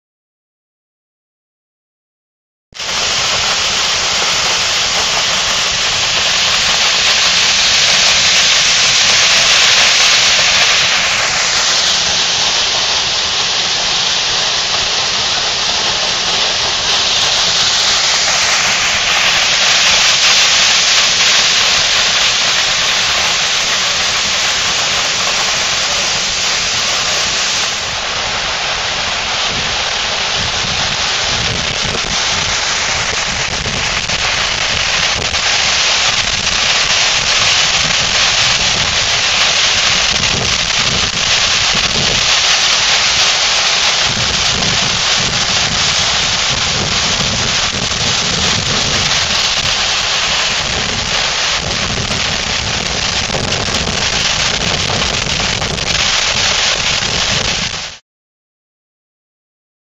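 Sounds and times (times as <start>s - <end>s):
waterfall rushing: 2.8s - 58.0s.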